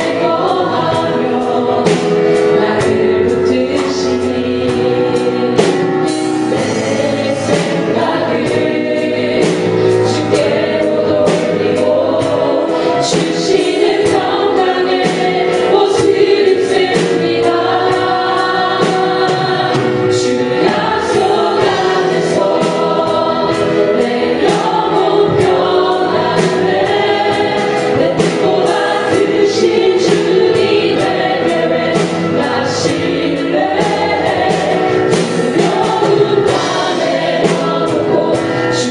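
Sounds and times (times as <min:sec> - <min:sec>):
band accompaniment: 0:00.0 - 0:38.9
group singing worship song: 0:00.0 - 0:38.9.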